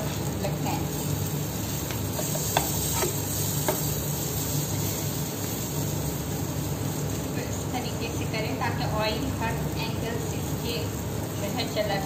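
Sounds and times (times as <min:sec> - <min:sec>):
slices sizzling in oil: 0:00.0 - 0:12.0.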